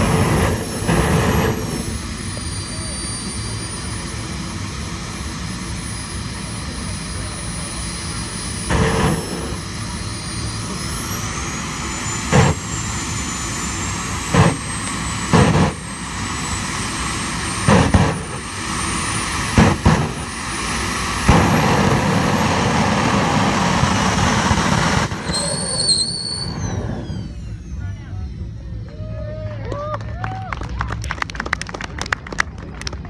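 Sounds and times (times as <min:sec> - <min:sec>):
loud engine bursts: 0:00.0 - 0:32.0
turbine jet engine whine: 0:00.0 - 0:33.0.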